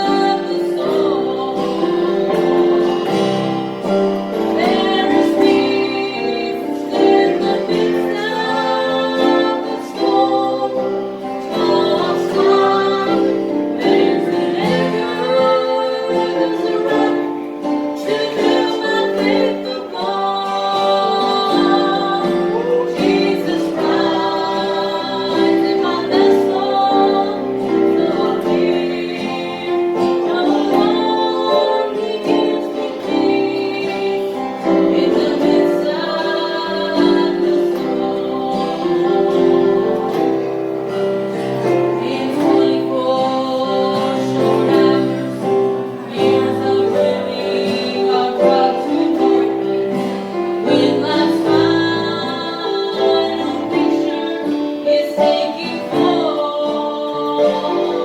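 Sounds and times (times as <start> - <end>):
instrumental accompaniment: 0.0 - 58.0
woman singing gospel: 0.0 - 58.0.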